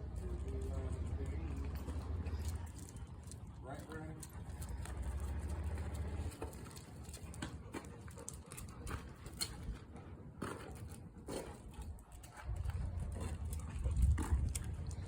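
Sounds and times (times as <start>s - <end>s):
footsteps of people and dogs: 0.0s - 15.0s.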